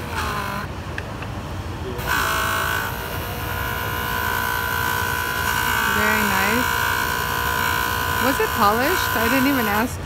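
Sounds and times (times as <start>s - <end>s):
polishing machine whining: 0.0s - 0.8s, 2.0s - 10.0s.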